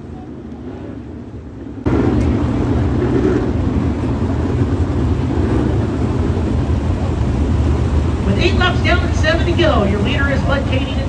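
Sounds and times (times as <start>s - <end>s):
race car engines running loudly: 0.0s - 11.0s.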